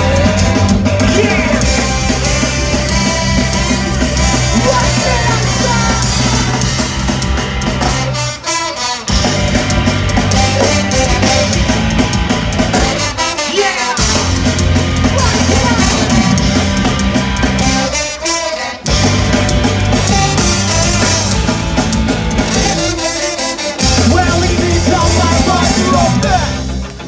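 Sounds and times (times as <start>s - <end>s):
ska punk band playing: 0.0s - 27.0s.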